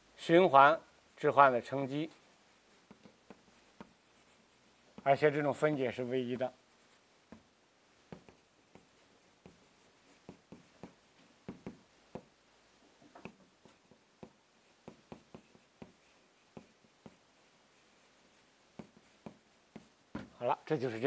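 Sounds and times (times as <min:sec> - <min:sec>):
chalk writing on blackboard: 0:00.8 - 0:20.3.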